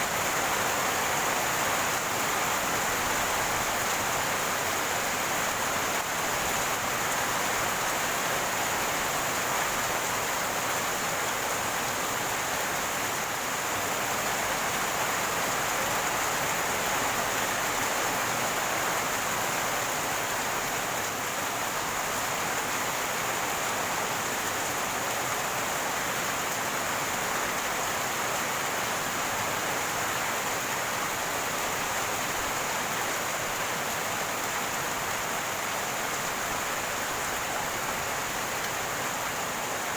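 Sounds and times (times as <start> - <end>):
rainwater running and gurgling: 0.0 - 39.9.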